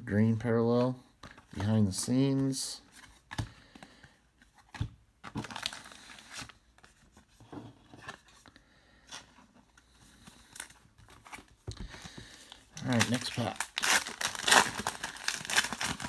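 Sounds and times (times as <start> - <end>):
plastic card sleeve rustling: 0.8 - 16.0.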